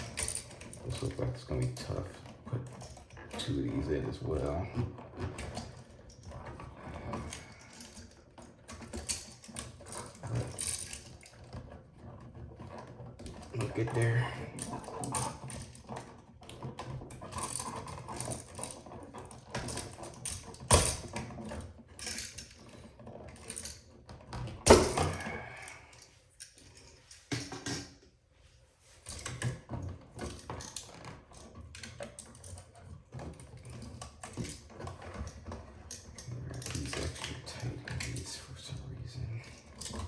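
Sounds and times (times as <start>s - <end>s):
electrical wires clicking and scraping: 0.0s - 40.0s.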